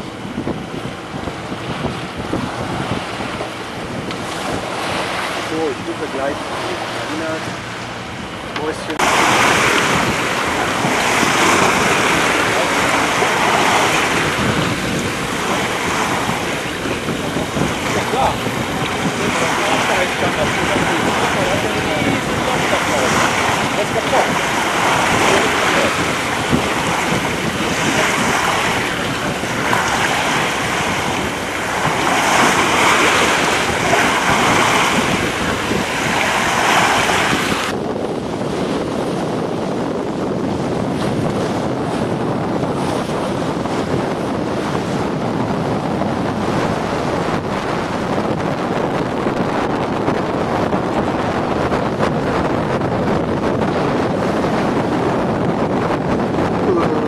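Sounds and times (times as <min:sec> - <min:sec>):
rush of wind and water: 0:00.0 - 0:57.0
water splashing along hull: 0:00.0 - 0:57.0.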